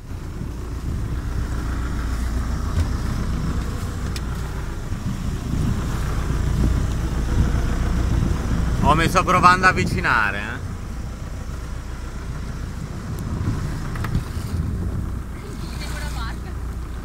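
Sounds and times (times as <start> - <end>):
motorboat engine rumble: 0.0 - 17.0
water noise: 0.0 - 17.0
wind: 0.0 - 17.0.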